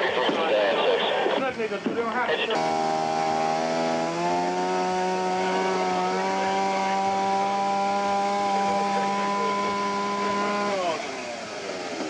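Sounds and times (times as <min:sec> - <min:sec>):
gas saw cutting wood: 0:00.0 - 0:12.0.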